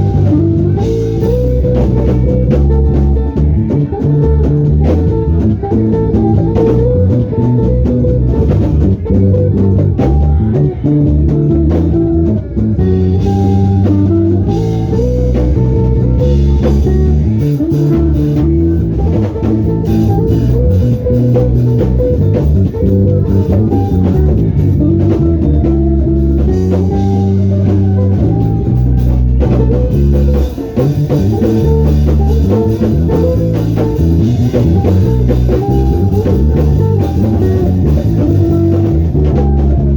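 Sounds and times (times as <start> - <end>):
bass guitar line: 0.0 - 39.9
drum kit: 0.0 - 39.9
guitar: 0.0 - 39.9.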